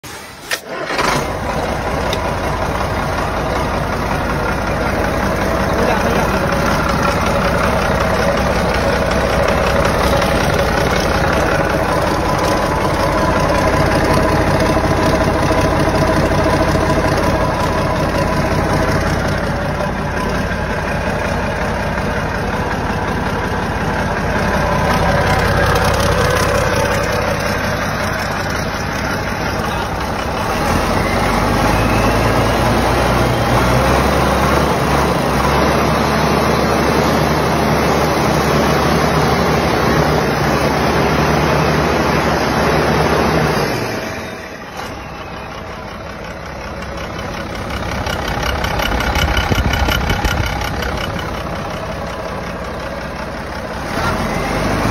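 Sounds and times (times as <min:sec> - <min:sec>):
large diesel engine running: 0:00.0 - 0:54.9.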